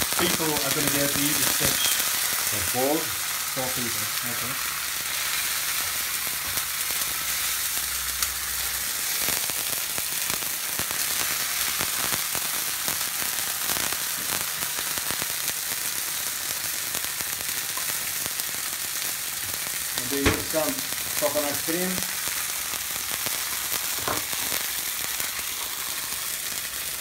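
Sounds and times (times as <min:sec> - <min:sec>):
paste sizzling in oil: 0:00.0 - 0:27.0.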